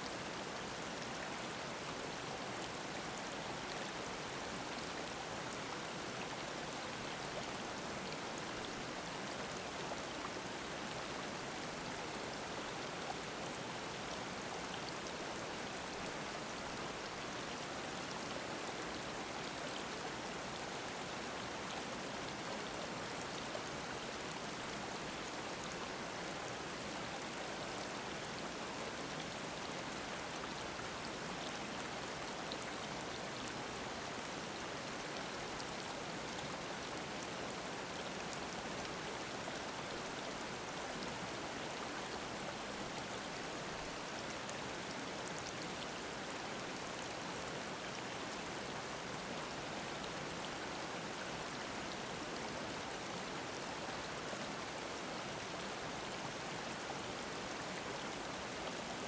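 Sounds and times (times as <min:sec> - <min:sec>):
stream babbling: 0:00.1 - 0:59.0.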